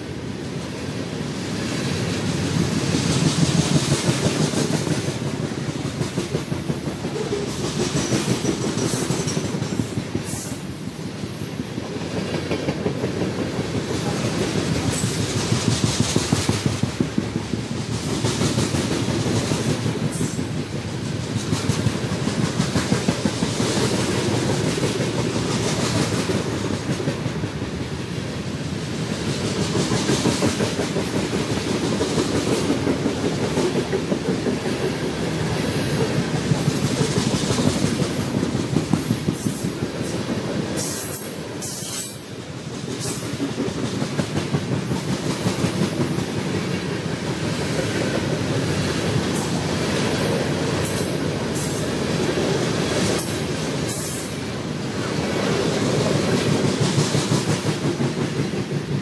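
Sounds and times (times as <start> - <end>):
train rumble: 0.0 - 59.0
train wheels clicking over rail joints: 0.1 - 59.0.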